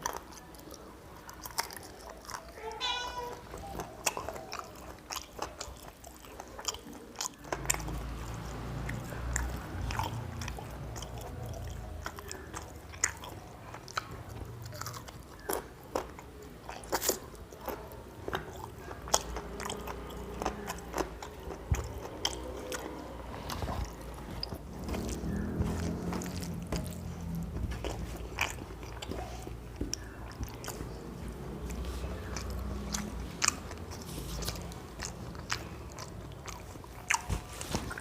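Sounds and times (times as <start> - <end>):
man chewing food: 0.0 - 38.0.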